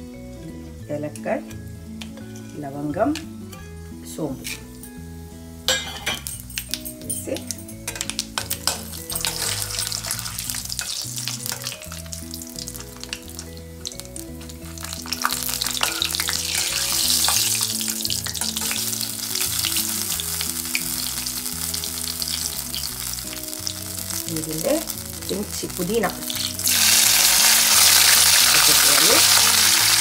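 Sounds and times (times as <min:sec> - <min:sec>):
spices sizzling in hot oil: 0:00.0 - 0:30.0.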